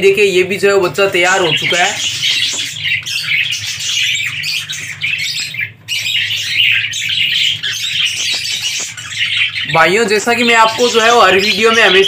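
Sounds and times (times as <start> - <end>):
budgerigars chattering and squawking: 0.0 - 12.0
steady low hum: 0.0 - 12.0.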